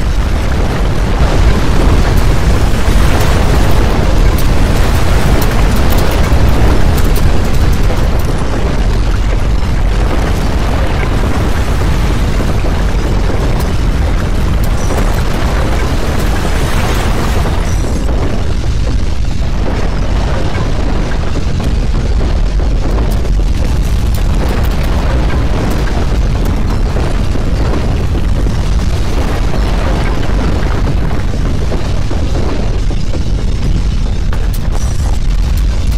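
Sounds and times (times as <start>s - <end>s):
earthquake ground rumble: 0.0s - 35.9s.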